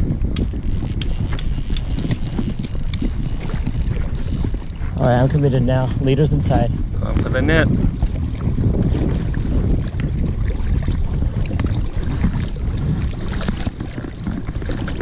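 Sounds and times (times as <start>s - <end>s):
river water sloshing: 0.0s - 5.8s, 7.8s - 15.0s
wind rumbling on microphone: 0.0s - 15.0s.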